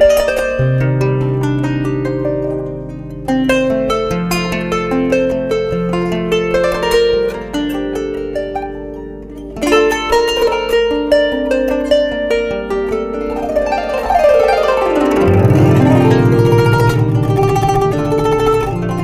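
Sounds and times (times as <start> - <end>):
harp-like plucked strings melody: 0.0 - 19.0.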